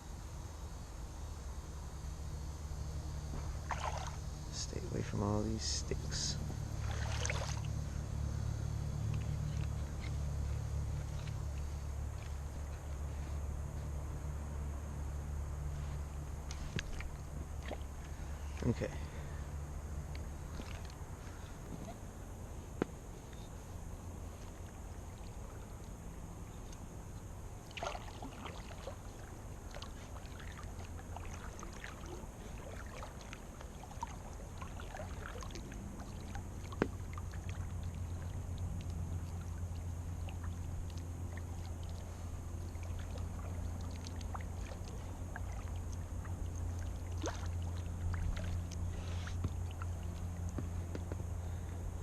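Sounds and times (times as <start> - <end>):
steady low rumble: 0.0 - 52.0
water lapping against hull: 3.3 - 13.9, 15.6 - 52.0.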